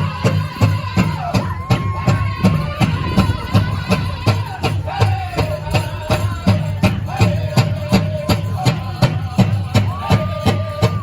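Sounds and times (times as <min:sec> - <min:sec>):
big drum steady fast beat: 0:00.0 - 0:11.0
high held singing voices: 0:00.0 - 0:11.0.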